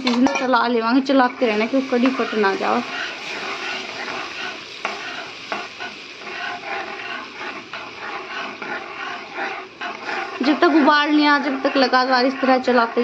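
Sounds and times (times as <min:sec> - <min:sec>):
spoon stirring batter in metal pan: 0:00.0 - 0:13.0.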